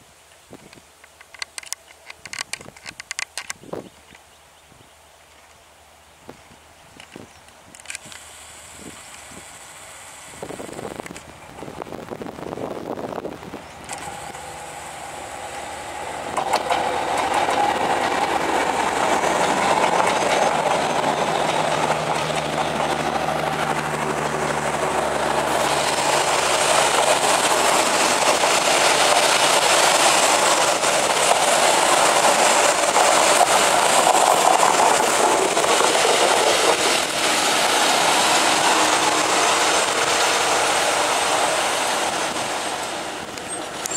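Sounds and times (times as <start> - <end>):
train wheels rumbling on rails: 6.3 - 43.9.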